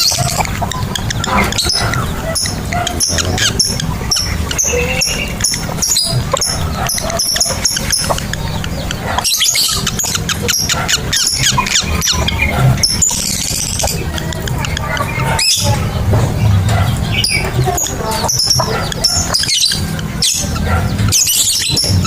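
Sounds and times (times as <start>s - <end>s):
lovebirds chirping: 0.0s - 22.0s
steady low hum: 0.0s - 22.0s.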